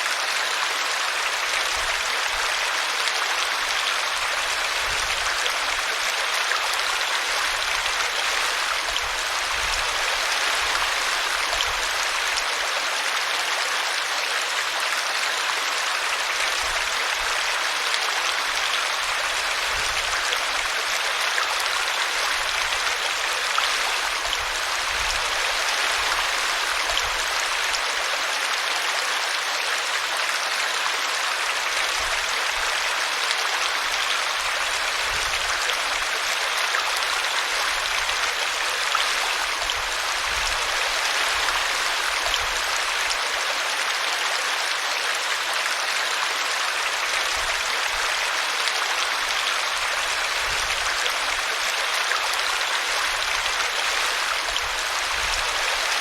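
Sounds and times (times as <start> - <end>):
brook water rushing: 0.0 - 56.0.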